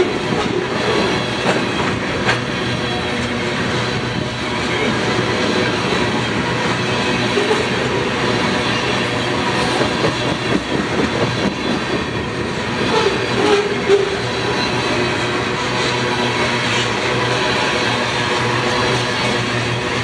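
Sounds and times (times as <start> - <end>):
freight train wheels clattering on rails: 0.0 - 20.0.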